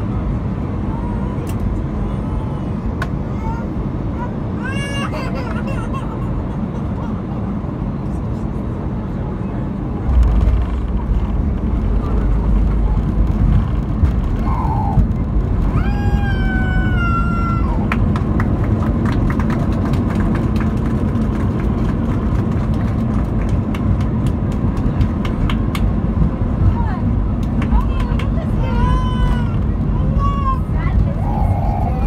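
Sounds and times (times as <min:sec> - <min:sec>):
engines and wheels rumbling: 0:00.0 - 0:32.0.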